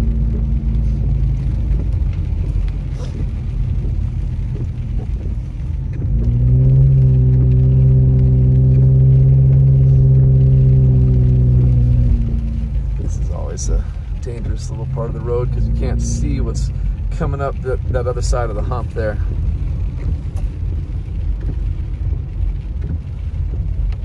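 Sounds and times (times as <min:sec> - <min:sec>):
car engine drone: 0:00.0 - 0:24.0
road rumble: 0:00.0 - 0:24.0.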